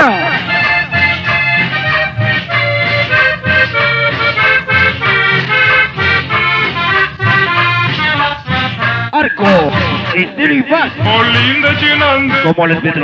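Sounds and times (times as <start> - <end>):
accordion cumbia music: 0.0 - 13.0.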